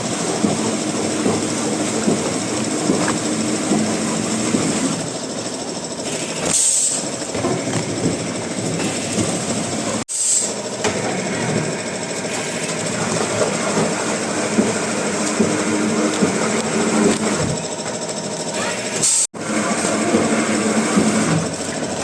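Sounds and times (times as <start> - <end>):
woodworking machinery running: 0.0 - 22.0.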